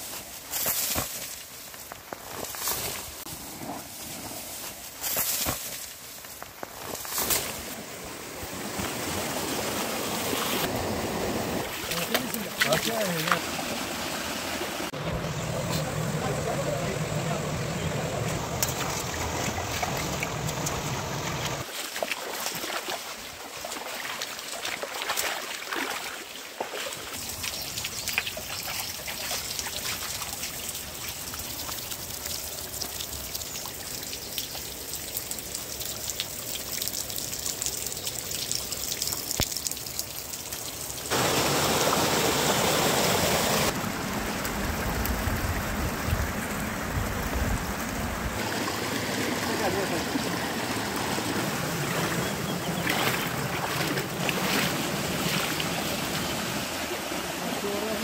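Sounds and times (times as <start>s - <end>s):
rush of water: 0.0s - 58.0s
stream water trickling over rocks: 4.0s - 58.0s.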